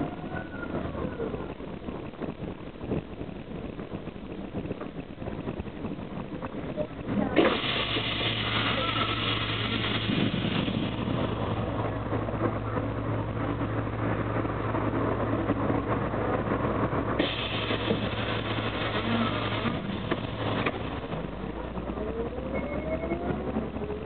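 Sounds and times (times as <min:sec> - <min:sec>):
bus accelerating with whine: 0:00.0 - 0:24.0
bus diesel engine idling: 0:00.0 - 0:24.0.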